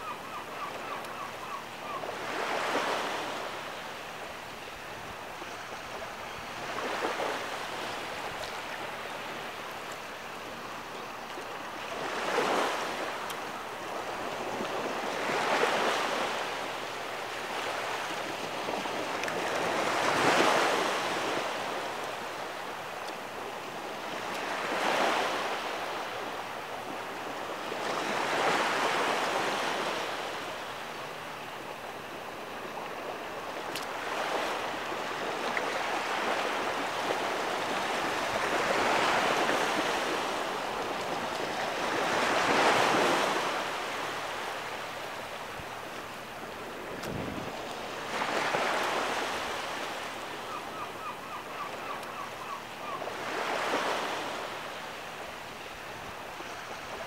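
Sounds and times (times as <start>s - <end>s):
small waves washing onto sand: 2.1s - 50.6s.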